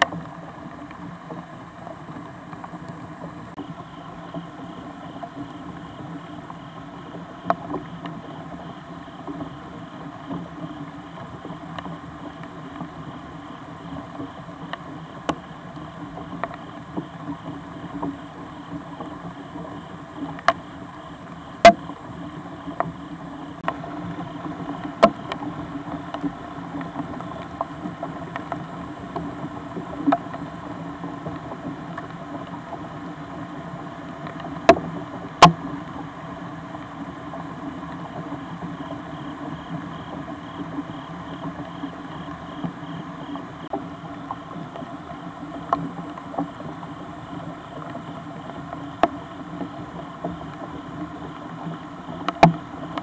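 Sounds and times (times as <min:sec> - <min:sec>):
rain hiss: 0:00.0 - 0:53.0.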